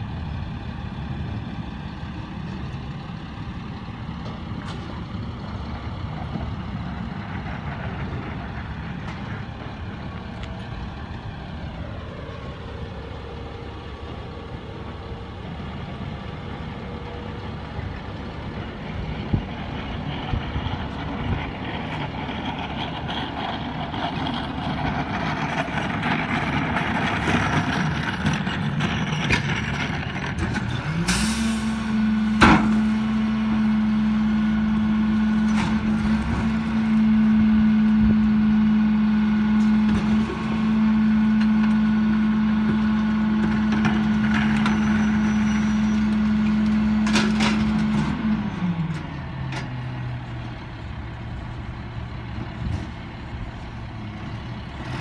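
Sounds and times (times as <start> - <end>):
garbage truck running: 0.0 - 55.0.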